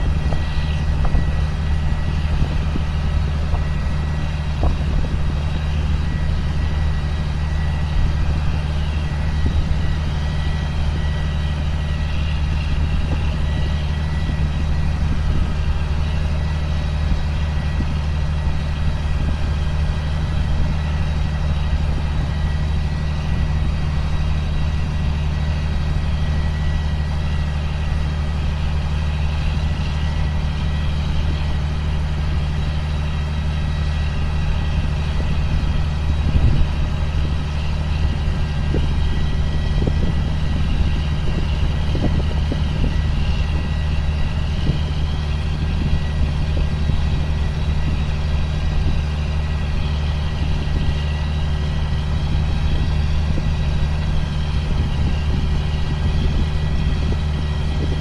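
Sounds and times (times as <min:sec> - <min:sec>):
diesel engine droning: 0:00.0 - 0:58.0
thin steady whine: 0:00.0 - 0:58.0.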